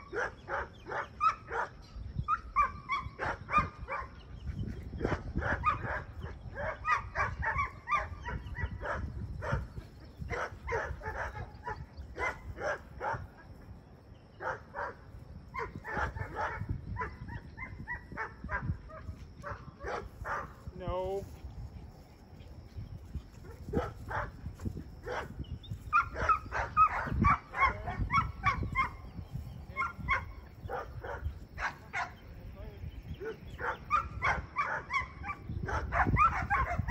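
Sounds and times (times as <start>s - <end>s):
dogs barking and yipping: 0.0s - 20.6s, 22.4s - 32.3s, 33.1s - 36.9s.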